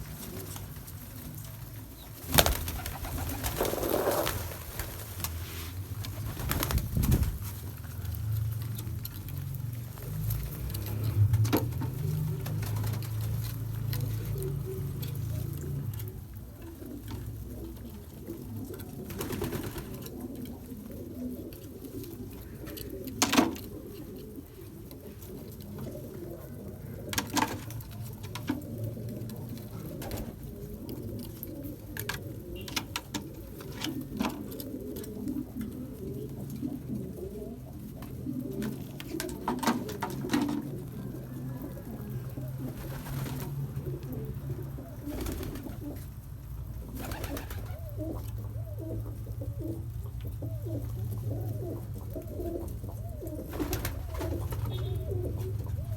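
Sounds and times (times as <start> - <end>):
pigeons cooing: 0.0 - 55.9.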